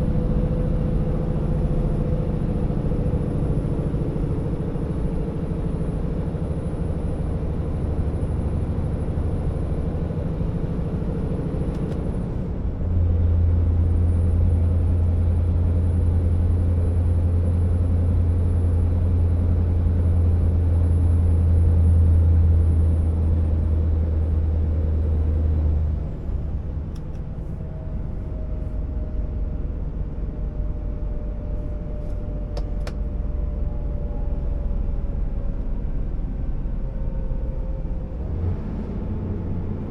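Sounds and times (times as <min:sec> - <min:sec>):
diesel truck engine: 0:00.0 - 0:39.9.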